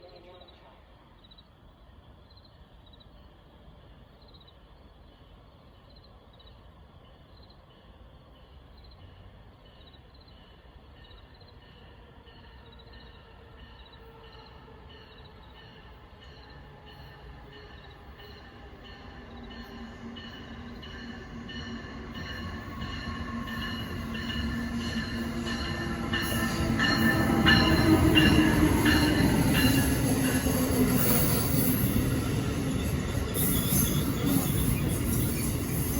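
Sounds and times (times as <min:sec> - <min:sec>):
insects chirping: 0:00.0 - 0:35.9
passenger train rumble: 0:01.9 - 0:35.9.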